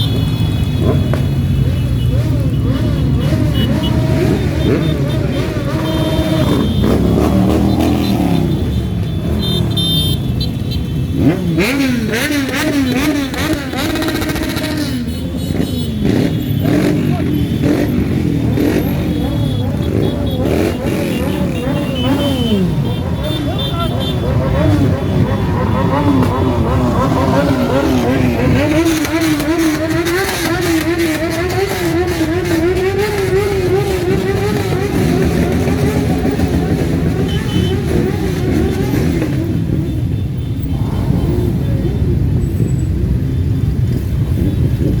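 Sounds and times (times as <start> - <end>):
motorcycle engine revving: 0.0 - 45.0
motorcycle engines passing: 0.0 - 45.0.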